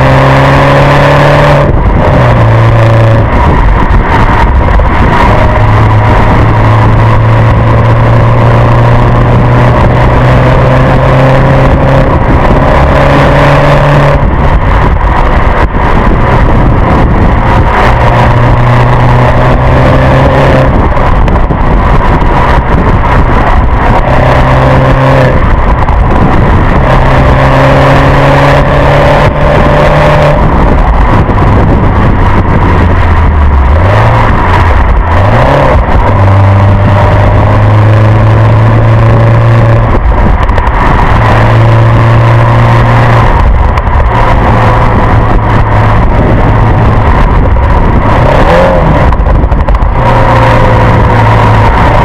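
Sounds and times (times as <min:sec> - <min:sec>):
car engine under load: 0:00.0 - 0:52.0
road and wind noise: 0:00.0 - 0:52.0.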